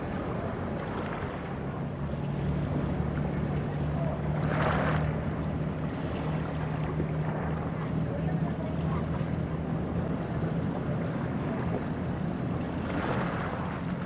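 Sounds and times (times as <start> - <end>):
ship engine low drone: 0.0 - 14.0
wind and water hiss: 0.0 - 14.0.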